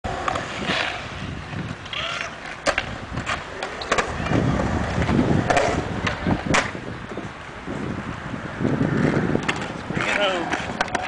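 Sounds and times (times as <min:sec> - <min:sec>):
skateboard wheels rumbling on concrete: 0:00.0 - 0:11.0
skateboard clacks: 0:00.1 - 0:07.2, 0:08.6 - 0:11.0.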